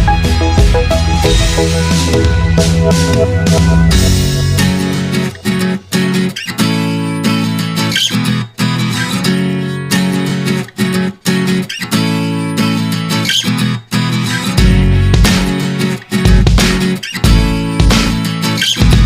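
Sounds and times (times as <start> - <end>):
strummed acoustic guitar music: 0.0 - 19.0.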